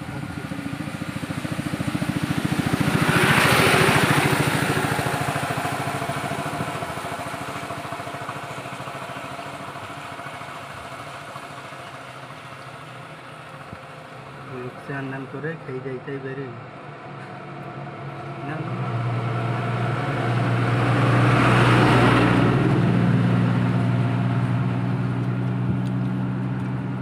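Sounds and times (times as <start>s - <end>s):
vehicle engine passing by: 0.0s - 27.0s.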